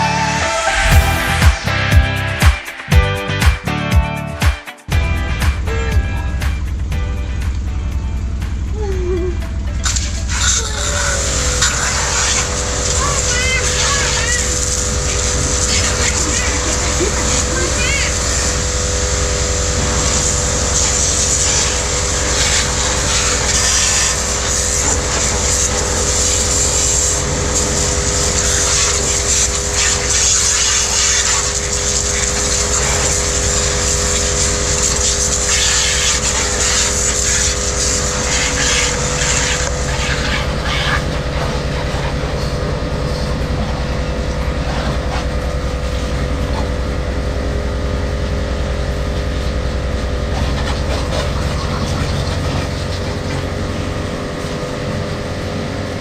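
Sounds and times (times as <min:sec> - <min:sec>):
pressure washer motor whine: 0:00.0 - 0:56.0.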